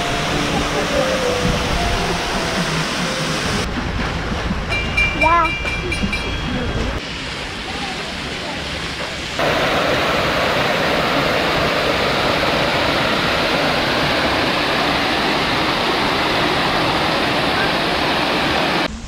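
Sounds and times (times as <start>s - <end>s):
fountain water rushing: 0.0s - 3.7s, 7.0s - 18.9s.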